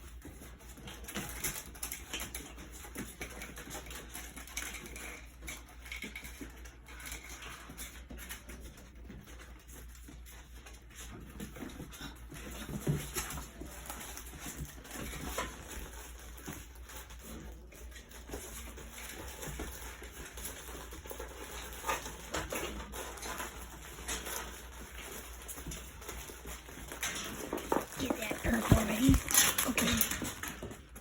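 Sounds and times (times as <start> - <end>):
puppies scuffing and tapping: 0.0 - 31.0.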